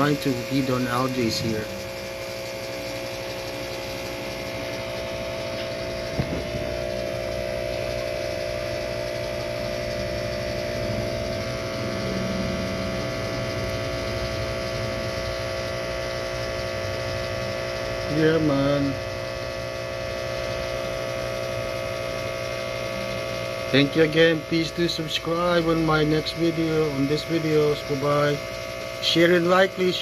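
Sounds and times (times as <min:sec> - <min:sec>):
electrical hum of aquarium equipment: 0:00.0 - 0:30.0.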